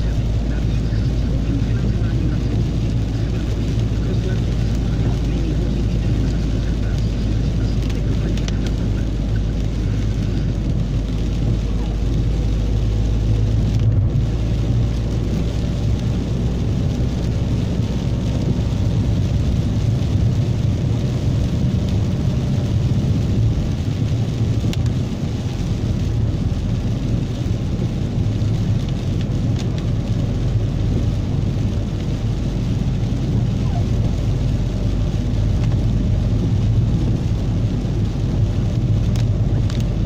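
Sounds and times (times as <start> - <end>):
car engine rumble: 0.0 - 40.0
rain hitting windscreen: 0.0 - 40.0
tyres on wet road: 0.0 - 40.0.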